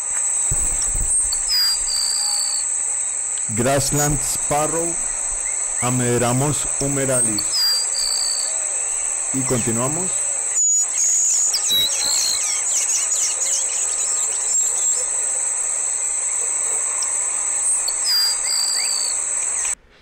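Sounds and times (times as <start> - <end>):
high-pitched insect drone: 0.0 - 19.8
sparrow singing high notes: 0.5 - 19.8.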